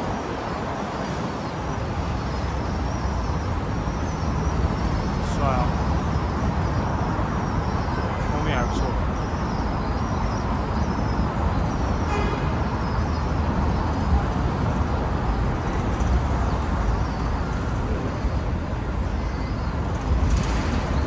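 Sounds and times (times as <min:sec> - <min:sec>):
city traffic rumble: 0:00.0 - 0:21.0.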